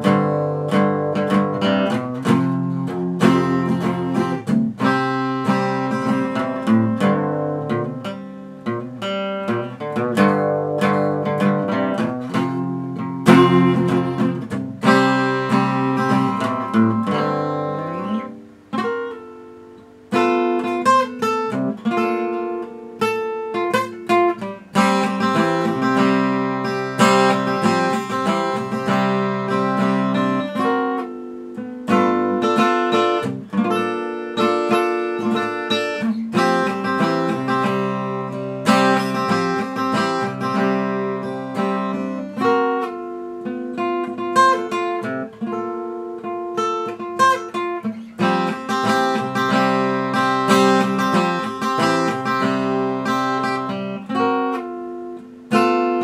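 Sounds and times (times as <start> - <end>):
guitar playing: 0.0 - 56.0.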